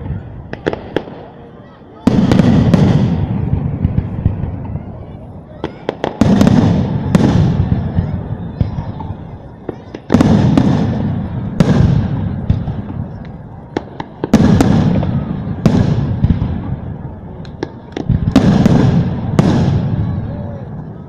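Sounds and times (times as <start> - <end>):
firework shells booming: 0.0 - 1.4, 2.0 - 5.0, 5.6 - 20.3
firework pops and crackles: 0.0 - 20.5.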